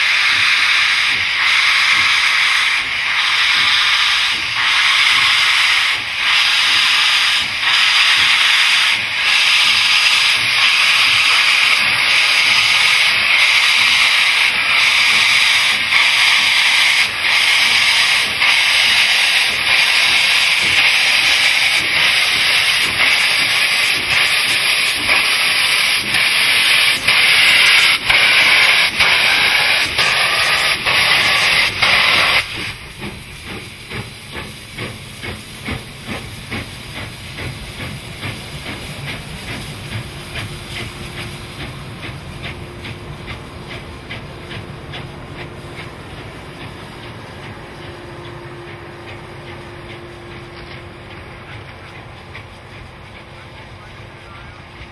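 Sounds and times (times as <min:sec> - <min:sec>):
steam hissing from cylinders: 0:00.0 - 0:54.9
steam locomotive exhaust beats: 0:00.0 - 0:54.9.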